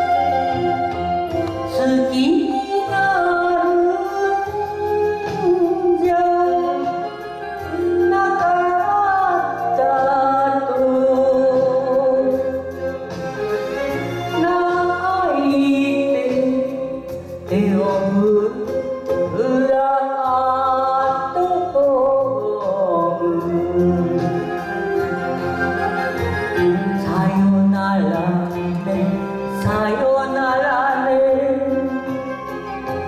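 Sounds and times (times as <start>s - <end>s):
instrumental accompaniment: 0.0s - 33.0s
woman singing into microphone: 1.3s - 12.8s, 14.3s - 25.1s, 26.2s - 32.4s.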